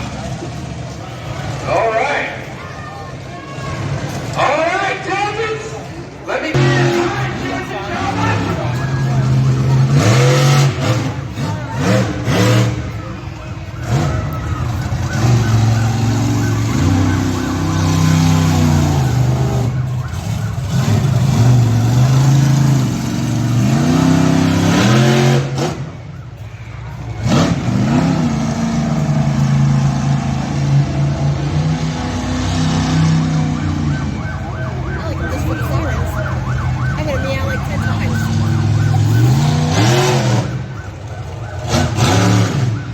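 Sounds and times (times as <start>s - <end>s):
truck engine revving hard: 6.3s - 26.2s, 26.9s - 42.9s.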